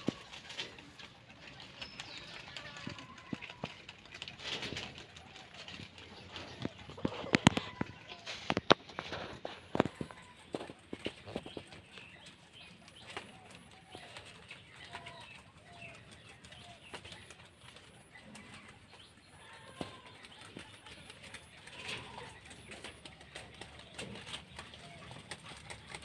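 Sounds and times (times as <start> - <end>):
small animals chewing leaves: 0.0 - 26.0.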